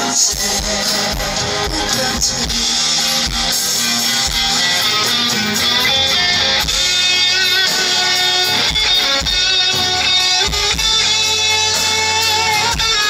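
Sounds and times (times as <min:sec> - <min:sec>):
guitar: 0:00.0 - 0:13.0
live band playing rock ballad: 0:00.0 - 0:13.0.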